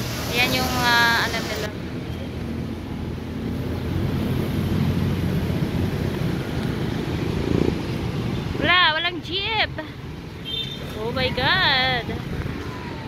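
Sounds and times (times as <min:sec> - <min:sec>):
cars passing: 0:00.0 - 0:13.0
motorcycle tricycles passing: 0:00.0 - 0:13.0
truck passing: 0:00.0 - 0:13.0.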